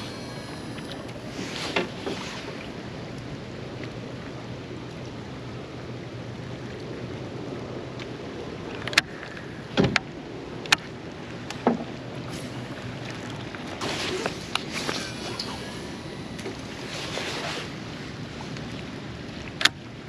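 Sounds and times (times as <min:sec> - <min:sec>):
boat low hum: 0:00.0 - 0:20.0.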